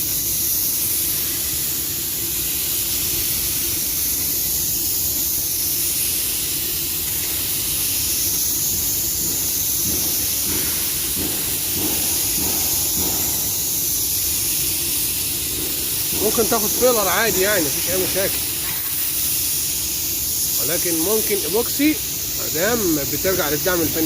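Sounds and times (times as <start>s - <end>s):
paint spray gun hissing: 0.0s - 24.0s.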